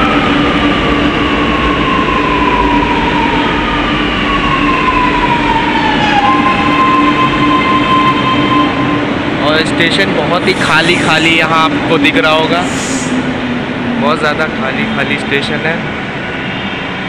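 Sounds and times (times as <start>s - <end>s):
train traction drive whining: 0.0s - 17.0s.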